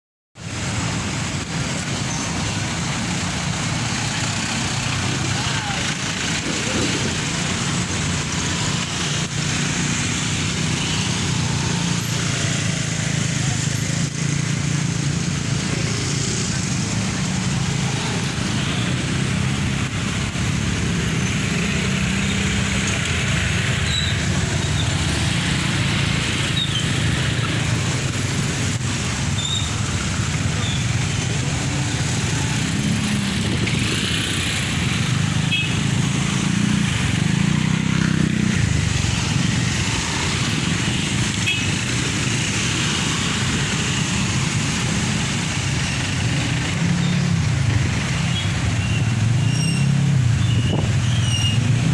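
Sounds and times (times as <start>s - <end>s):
road traffic passing: 0.4s - 51.9s.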